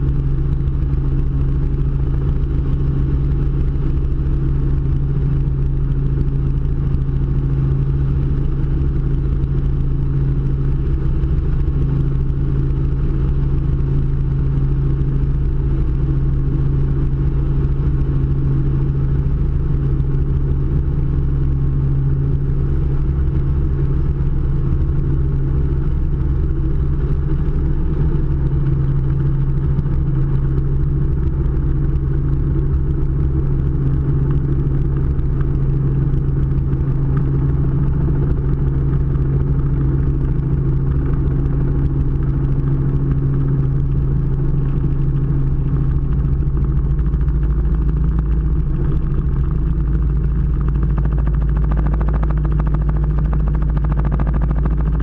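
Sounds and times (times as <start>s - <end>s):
helicopter engine and rotors droning: 0.0s - 55.0s.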